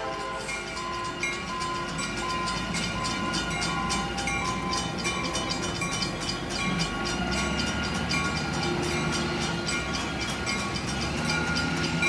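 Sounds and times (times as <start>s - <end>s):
bell ringing rapidly: 0.0s - 12.0s
diesel locomotives rumbling: 0.0s - 12.0s.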